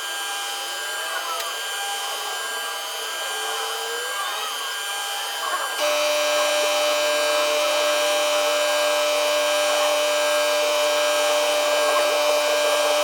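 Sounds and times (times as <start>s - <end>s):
milling machine spindle whining: 0.0s - 13.0s.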